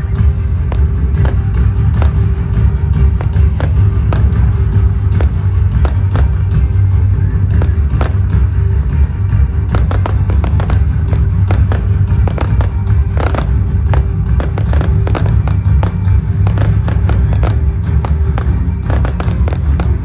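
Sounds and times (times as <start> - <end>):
fireworks bangs and crackles: 0.0 - 20.0
loud music: 0.0 - 20.0.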